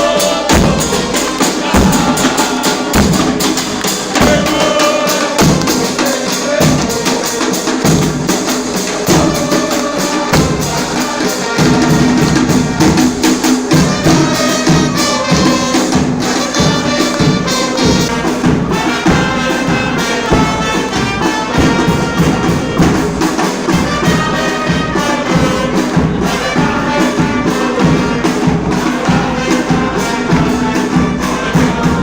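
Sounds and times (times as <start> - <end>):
brass band playing upbeat tune: 0.0 - 32.0.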